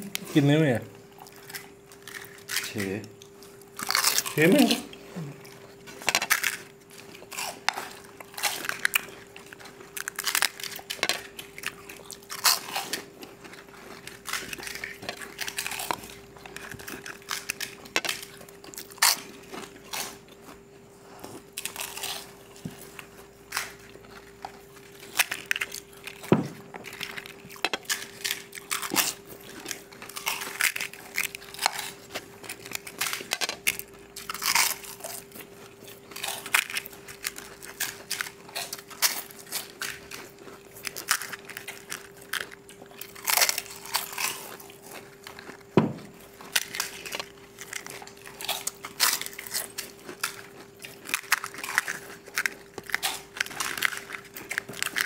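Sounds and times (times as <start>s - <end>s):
people crunching crisp shells: 0.0s - 55.0s
steady hum: 0.0s - 55.0s.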